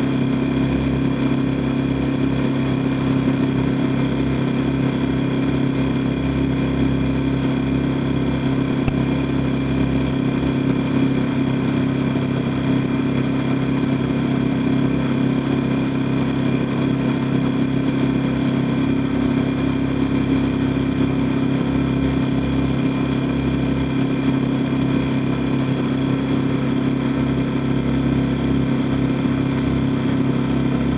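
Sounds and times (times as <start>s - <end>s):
boat engine humming: 0.0s - 30.9s.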